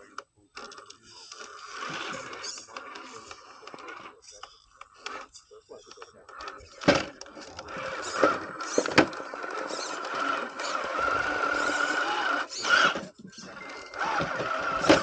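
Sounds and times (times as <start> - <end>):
electric motor whining: 1.2 - 5.4, 6.2 - 15.0.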